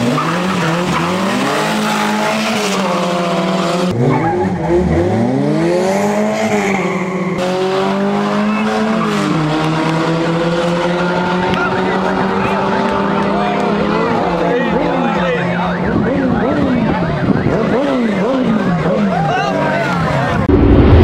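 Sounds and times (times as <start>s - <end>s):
drag car engines revving: 0.0s - 21.0s.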